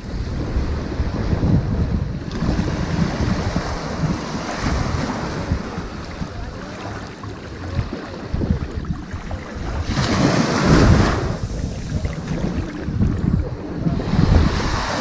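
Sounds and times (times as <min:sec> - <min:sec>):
ocean surf washing onto beach: 0:00.0 - 0:15.0
wind buffeting microphone: 0:00.0 - 0:15.0.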